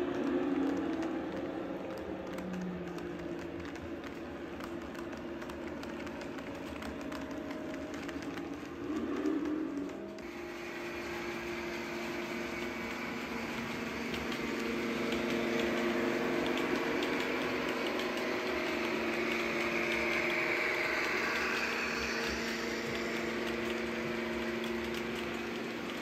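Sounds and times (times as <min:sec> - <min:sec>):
faint clicking: 0:00.0 - 0:10.3, 0:11.6 - 0:26.0
model train mechanical hum: 0:00.0 - 0:26.0.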